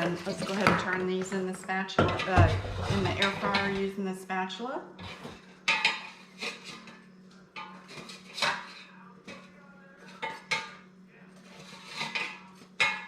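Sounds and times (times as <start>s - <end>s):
spatula scraping metal basket: 0.0s - 1.2s, 2.0s - 4.0s, 5.0s - 13.0s.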